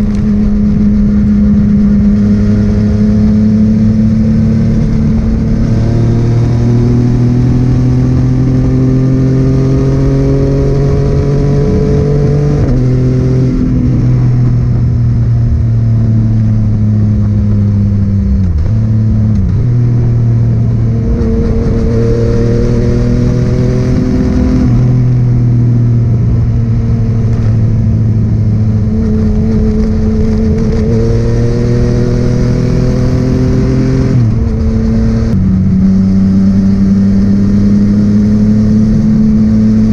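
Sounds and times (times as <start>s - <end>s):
wind and road rush: 0.0s - 39.9s.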